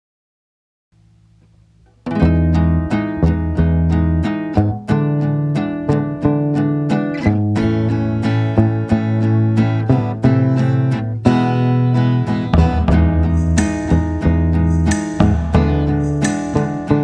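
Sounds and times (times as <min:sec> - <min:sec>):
acoustic guitar picking: 0:01.0 - 0:17.0
bass line: 0:01.0 - 0:17.0.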